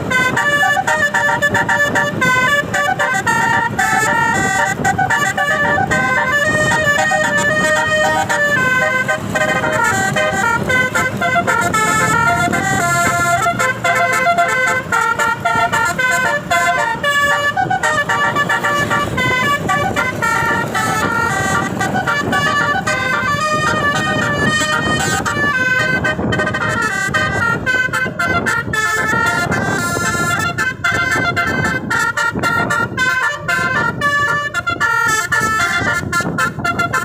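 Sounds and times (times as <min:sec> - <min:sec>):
multi-tone bus air horn melody: 0:00.0 - 0:37.0.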